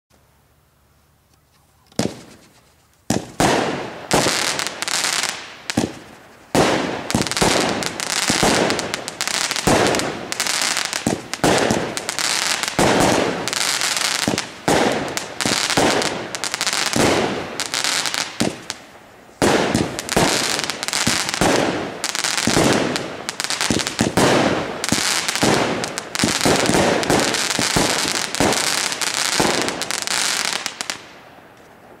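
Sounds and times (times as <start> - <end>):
fireworks crackle: 1.8 - 32.0
fireworks launching and bursting: 1.9 - 32.0.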